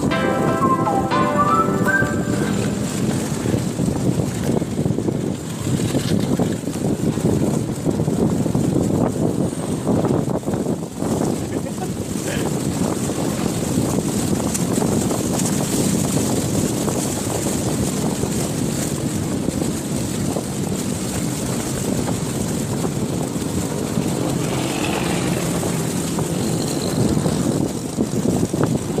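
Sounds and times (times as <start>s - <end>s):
wind on microphone: 2.6s - 29.0s.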